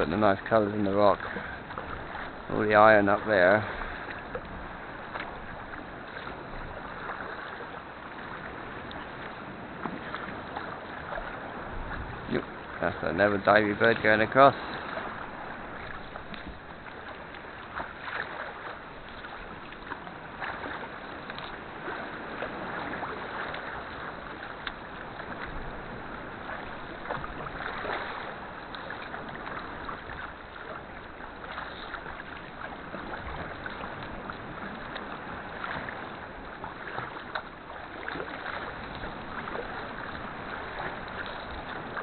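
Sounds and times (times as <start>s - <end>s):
paddle splashes and drips: 0.0s - 42.0s
water slapping hull: 0.0s - 42.0s
water wash: 0.0s - 42.0s.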